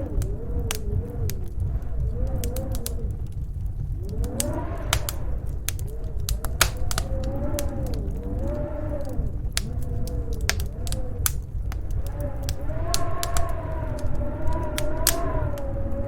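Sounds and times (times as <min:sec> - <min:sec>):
low wind rumble: 0:00.0 - 0:16.0
snowstorm wind howling: 0:00.0 - 0:16.0
wood fire crackling and popping: 0:00.0 - 0:16.0.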